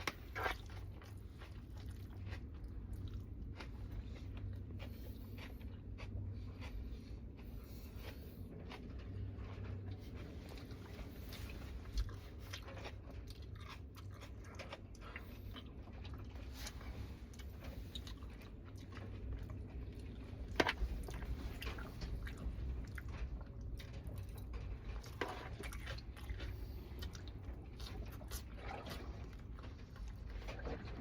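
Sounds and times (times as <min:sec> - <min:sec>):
person chewing and crunching food: 0:00.0 - 0:31.0
steady low hum: 0:00.0 - 0:31.0.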